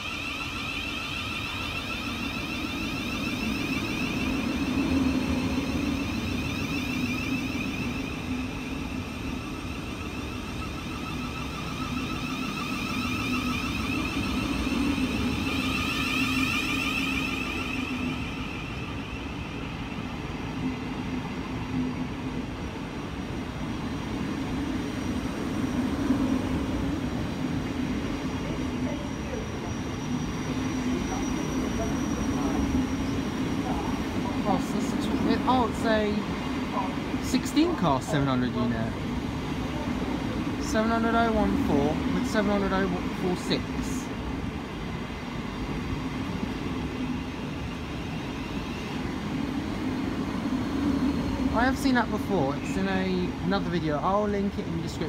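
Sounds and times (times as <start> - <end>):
high train whine: 0.0 - 55.0
train wheels on rail: 0.0 - 55.0.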